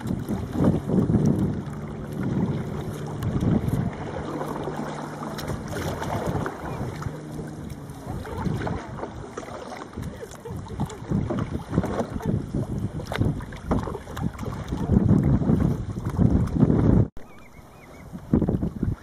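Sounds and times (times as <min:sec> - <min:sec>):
waves lapping against kayak: 0:00.0 - 0:19.0
wind buffeting microphone: 0:00.0 - 0:19.0.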